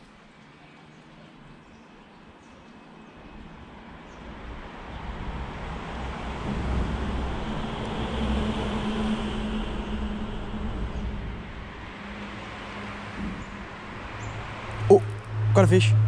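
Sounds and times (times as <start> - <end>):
vehicle crossing bridge overhead: 0.0 - 16.0.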